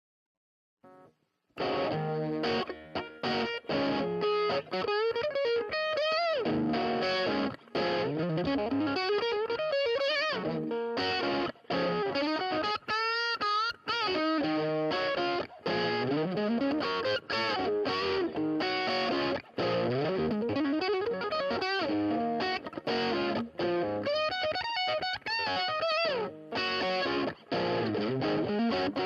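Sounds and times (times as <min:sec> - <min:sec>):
distorted electric guitar: 0:00.9 - 0:29.0.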